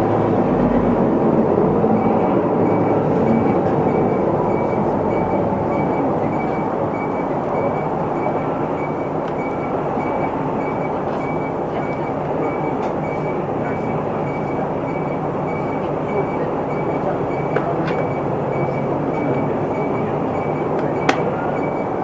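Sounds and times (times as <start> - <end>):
bus engine and road noise: 0.0 - 22.0
high beep: 2.0 - 22.0.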